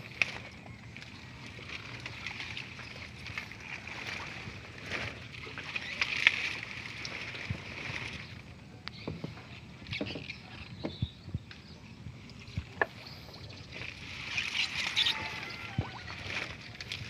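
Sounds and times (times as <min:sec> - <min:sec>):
leaves and stems rustling: 0:00.0 - 0:10.8, 0:12.1 - 0:17.0
water sloshing: 0:00.0 - 0:17.0.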